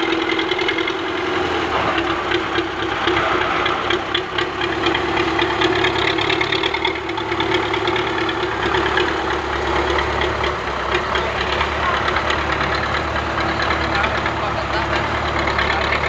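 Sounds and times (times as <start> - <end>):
tractor engine clattering: 0.0 - 16.0.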